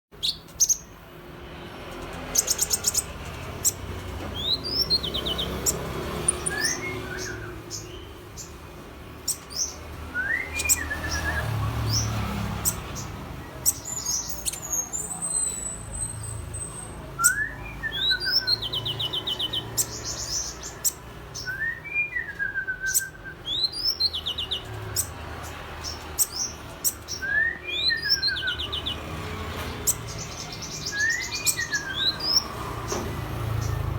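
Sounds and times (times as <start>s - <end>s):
bird whistling song with trills: 2.3s - 8.5s, 9.2s - 25.1s, 25.9s - 29.0s, 29.8s - 33.0s.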